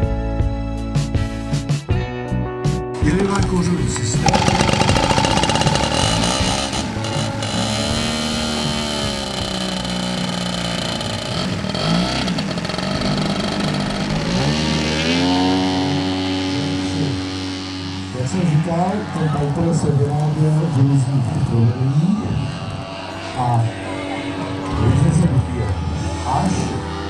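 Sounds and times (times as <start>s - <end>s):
model plane engine running: 3.1s - 27.0s.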